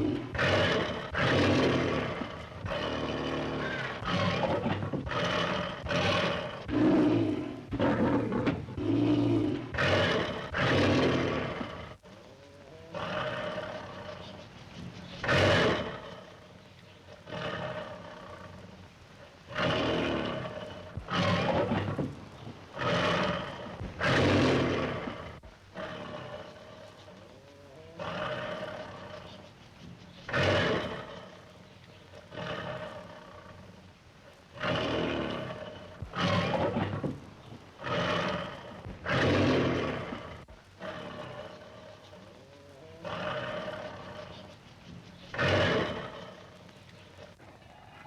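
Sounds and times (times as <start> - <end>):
lion roaring and growling: 0.0 - 48.0.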